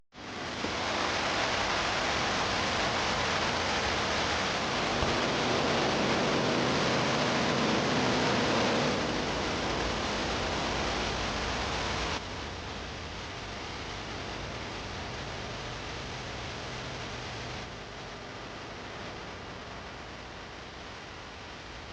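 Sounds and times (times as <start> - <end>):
dense rushing noise: 0.2 - 19.3.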